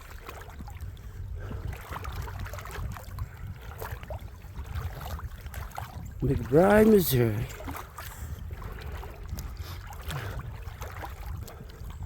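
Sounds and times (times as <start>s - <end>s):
creek water sloshing and splashing: 0.0s - 12.0s.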